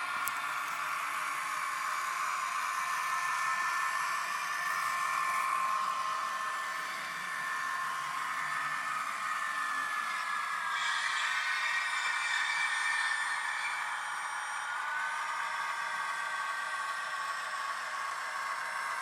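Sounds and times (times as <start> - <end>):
model train diesel engine sound: 0.0 - 19.0.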